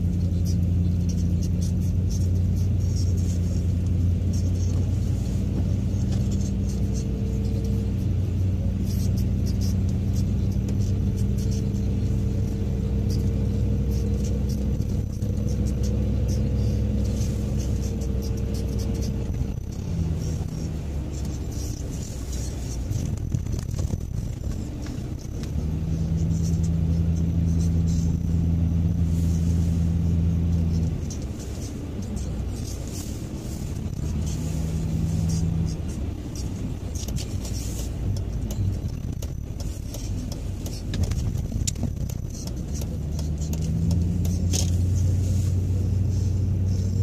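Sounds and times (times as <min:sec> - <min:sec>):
car engine and tyre noise: 0:00.0 - 0:47.0.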